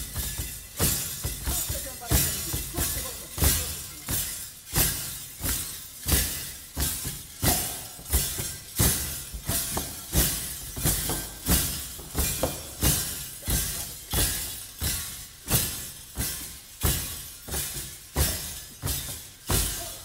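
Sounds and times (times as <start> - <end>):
metal rattles shaken in beat: 0.0 - 20.0.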